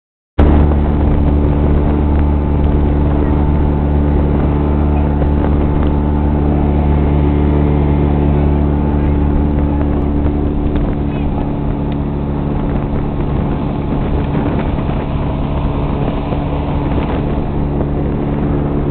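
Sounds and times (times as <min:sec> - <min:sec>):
speedboat engine droning: 0:00.4 - 0:18.9.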